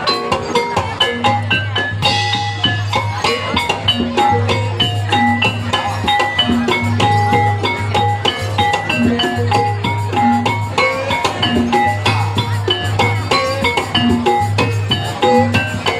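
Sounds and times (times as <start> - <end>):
drums: 0.0 - 15.9
mallet percussion repeated notes: 0.0 - 15.9.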